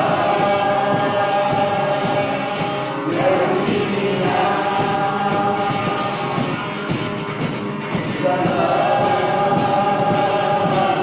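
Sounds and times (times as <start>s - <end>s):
group singing: 0.0s - 11.0s
music: 0.0s - 11.0s.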